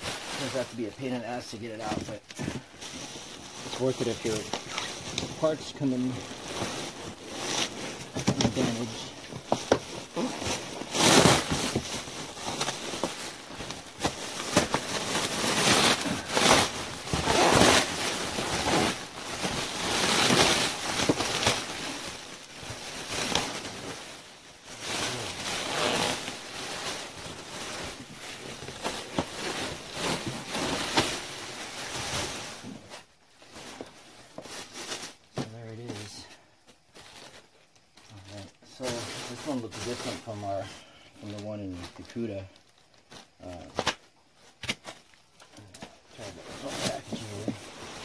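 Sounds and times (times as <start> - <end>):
plastic packaging rustling: 0.0 - 48.0.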